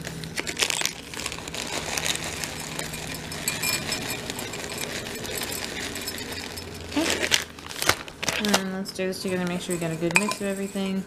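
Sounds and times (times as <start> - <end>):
chocolate chips rattling into bowl: 0.4 - 8.6, 9.2 - 10.9.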